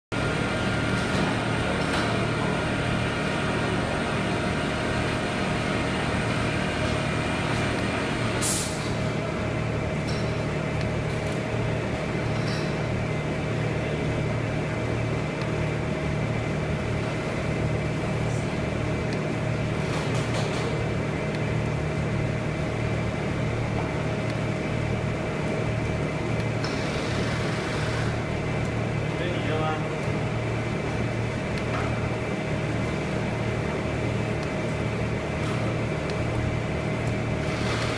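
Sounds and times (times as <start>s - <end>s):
low mechanical hum: 0.1s - 37.9s.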